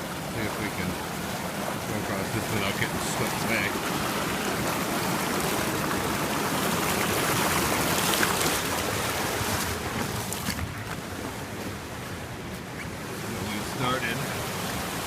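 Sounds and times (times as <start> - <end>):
river water rushing over dam: 0.0 - 15.0.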